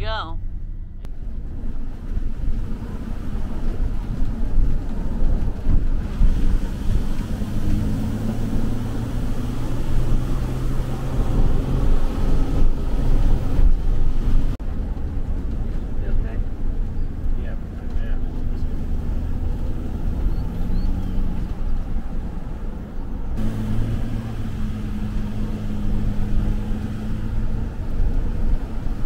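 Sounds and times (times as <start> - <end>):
vehicle engine and road rumble: 0.0 - 29.0
wind noise: 0.0 - 29.0.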